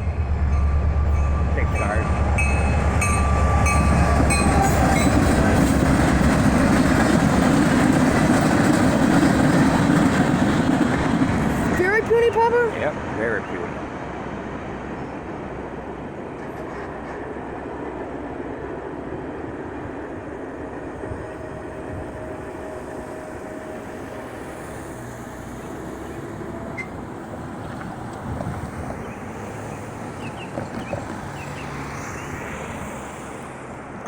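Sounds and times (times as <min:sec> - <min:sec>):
train rumbling and clattering: 0:00.0 - 0:34.0.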